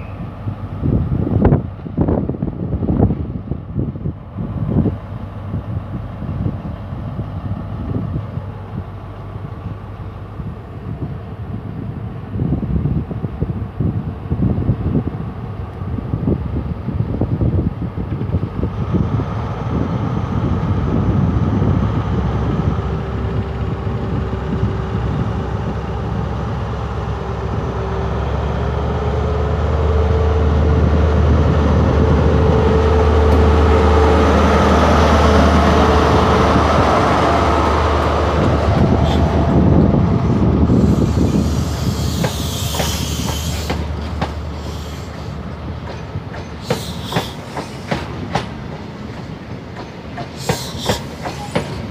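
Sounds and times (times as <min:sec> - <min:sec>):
diesel train passing: 0:00.0 - 0:51.9.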